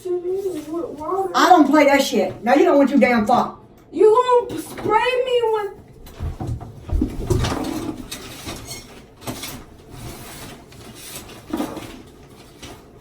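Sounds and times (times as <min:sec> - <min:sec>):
rustling handling noises: 0:00.0 - 0:02.8, 0:04.5 - 0:13.0.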